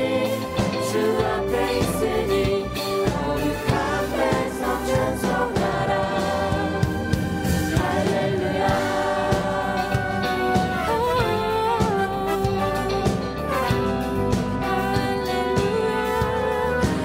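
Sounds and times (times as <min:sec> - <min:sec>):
group singing together: 0:00.0 - 0:13.2, 0:13.8 - 0:17.0
worship band playing: 0:00.0 - 0:17.0.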